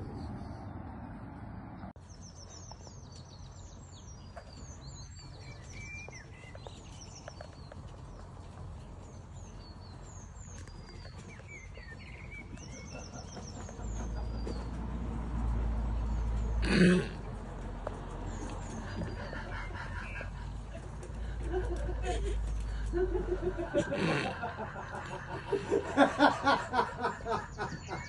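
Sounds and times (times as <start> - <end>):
small songbirds chirping: 1.8 - 28.0.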